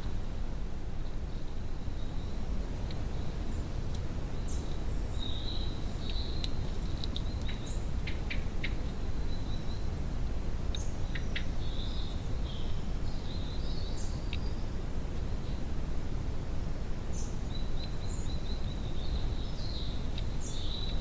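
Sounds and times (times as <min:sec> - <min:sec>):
low background rumble: 0:00.0 - 0:21.0
small birds chirping: 0:01.0 - 0:15.8, 0:16.4 - 0:21.0.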